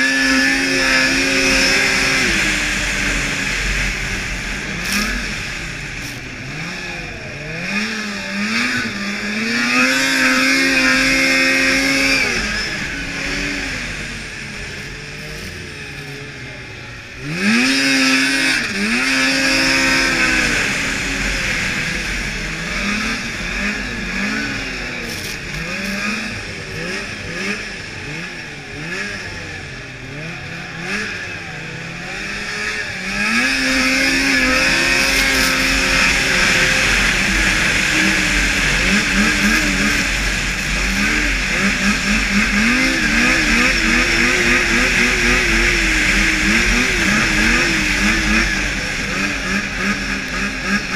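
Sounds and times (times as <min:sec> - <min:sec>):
snowmobile engine revving: 0:00.0 - 0:50.9
wind: 0:00.0 - 0:50.9.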